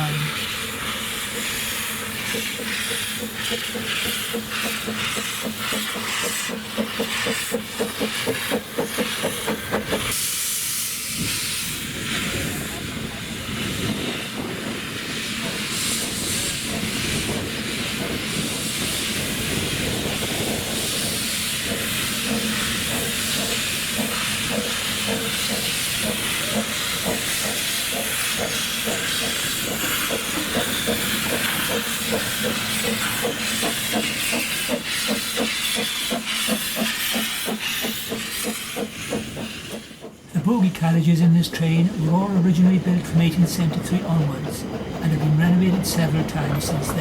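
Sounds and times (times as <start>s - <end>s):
locomotive chuffing beat: 0.0s - 47.0s
steam locomotive hissing: 0.0s - 47.0s.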